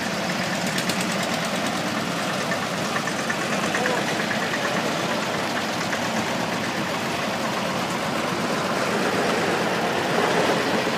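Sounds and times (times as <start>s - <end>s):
tractor engines chugging: 0.0s - 10.9s.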